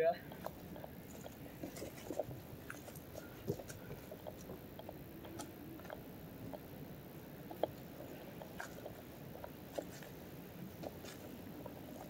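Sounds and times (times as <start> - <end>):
footsteps on rocky dirt trail: 0.2 - 6.7, 7.5 - 12.0.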